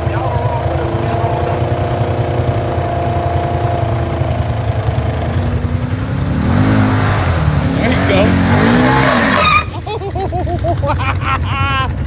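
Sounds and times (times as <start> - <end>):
utility vehicle engine idling: 0.0 - 12.0.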